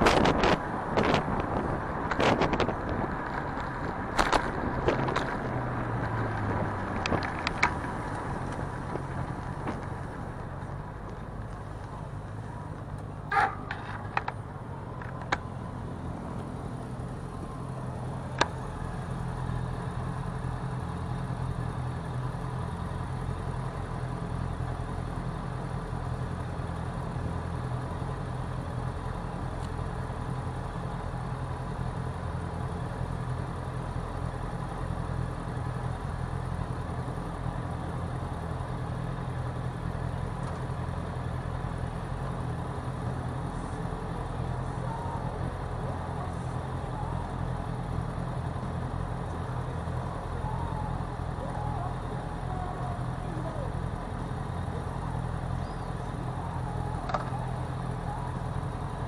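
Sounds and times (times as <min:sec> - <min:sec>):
motor traffic and road noise: 0:00.0 - 0:59.0.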